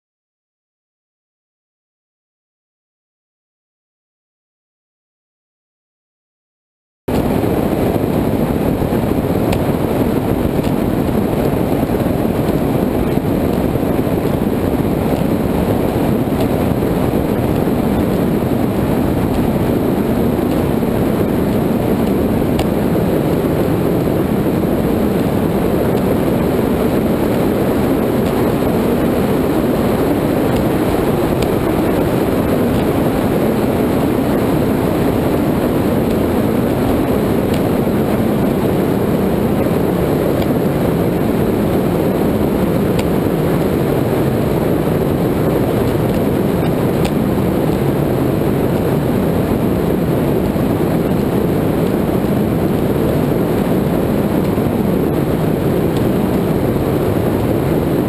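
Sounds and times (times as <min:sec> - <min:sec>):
boat engine: 0:07.1 - 0:58.0
hull on water: 0:07.1 - 0:58.0
wind buffeting camera: 0:07.1 - 0:58.0.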